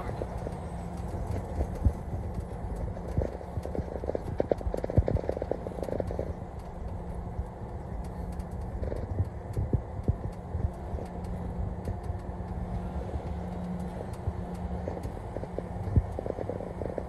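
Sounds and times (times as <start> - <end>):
faint steady hum: 0.0 - 17.0
road and engine noise in cab: 0.0 - 17.0.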